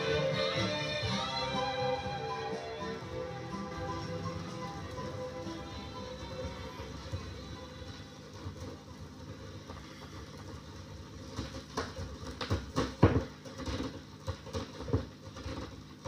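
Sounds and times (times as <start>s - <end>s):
vinyl record music: 0.0s - 15.7s
vinyl surface noise: 0.0s - 16.0s.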